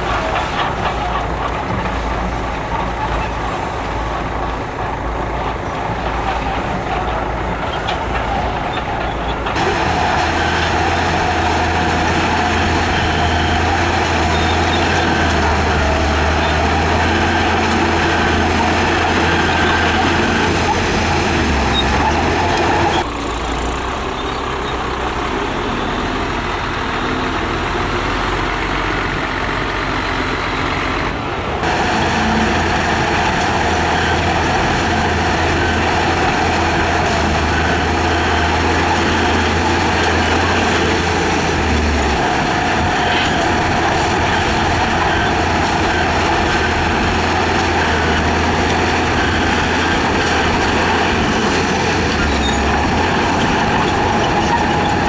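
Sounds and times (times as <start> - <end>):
construction machinery engine drone: 0.0 - 55.0.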